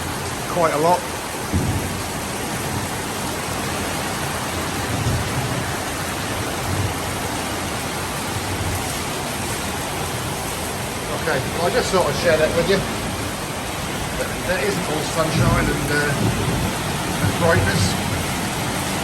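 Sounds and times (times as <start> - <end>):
heavy rain hammering down: 0.0 - 19.0.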